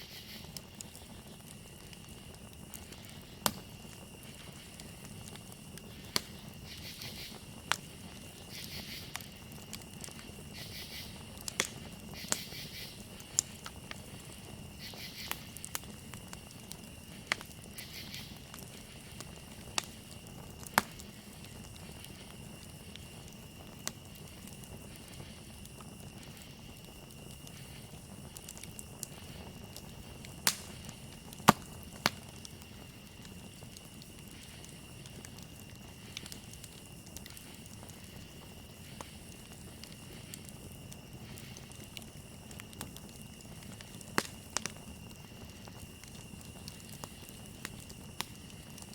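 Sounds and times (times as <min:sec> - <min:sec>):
campfire crackling and popping: 0:00.0 - 0:48.9
crickets trilling: 0:00.0 - 0:48.9.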